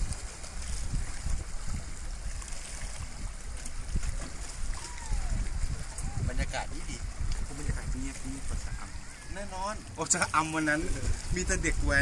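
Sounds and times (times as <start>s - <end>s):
waves lapping against rocks: 0.0s - 12.0s.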